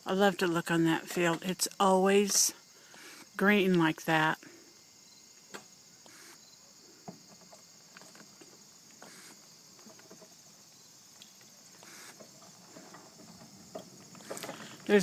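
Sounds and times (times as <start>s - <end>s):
crickets and insects trilling: 0.0s - 15.0s.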